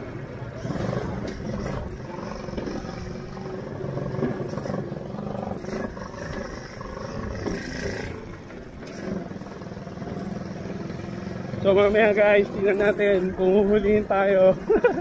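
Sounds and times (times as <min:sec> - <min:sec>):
go-kart engine running: 0:00.0 - 0:15.0.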